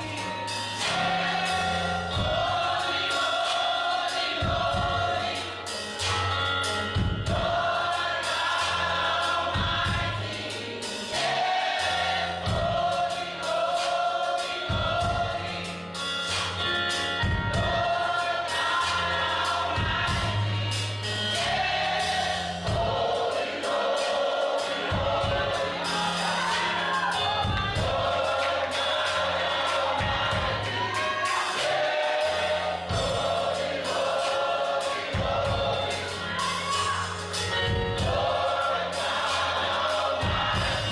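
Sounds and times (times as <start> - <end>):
gospel choir singing: 0.0 - 40.9
instrumental backing with beat: 0.0 - 40.9.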